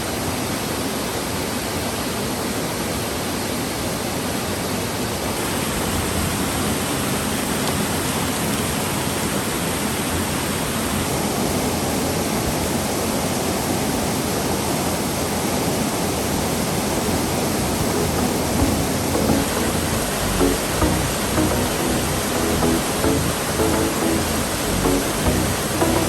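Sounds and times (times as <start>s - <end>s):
rushing water roar: 0.1s - 26.0s.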